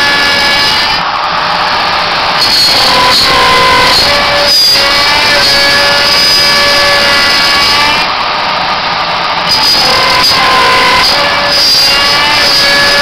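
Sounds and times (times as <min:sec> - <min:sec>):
milling machine cutting metal whine: 0:00.0 - 0:13.0.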